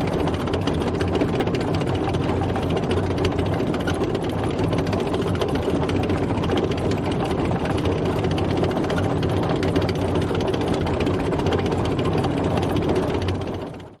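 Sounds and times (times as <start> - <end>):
fast even clatter: 0.0 - 14.0
heavy tank engine: 0.0 - 14.0.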